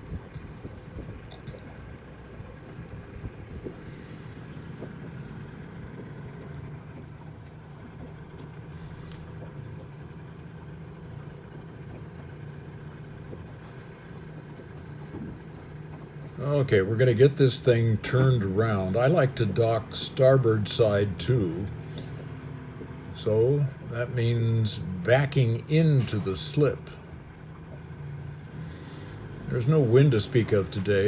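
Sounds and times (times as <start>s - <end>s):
small boat motor running: 0.0s - 31.0s.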